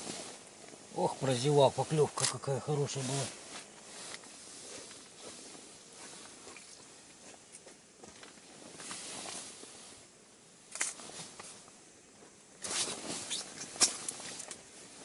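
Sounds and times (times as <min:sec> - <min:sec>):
fishing gear rustling and scraping: 0:00.0 - 0:15.0.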